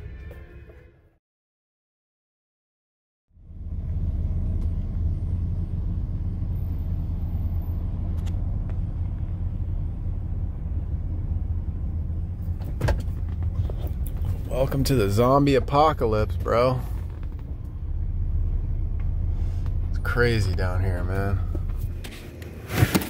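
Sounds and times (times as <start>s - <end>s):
vehicle engine rumble from inside cab: 3.3s - 22.8s.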